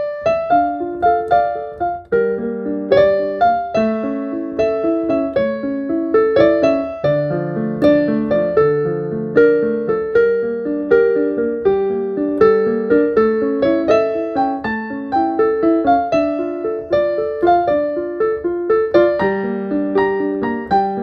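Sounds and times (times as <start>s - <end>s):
solo keyboard melody: 0.0s - 21.0s.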